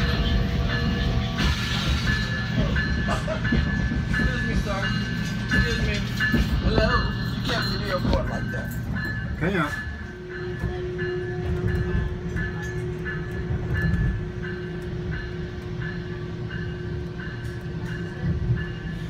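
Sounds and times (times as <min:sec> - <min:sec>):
train rumble and hum: 0:00.0 - 0:19.0.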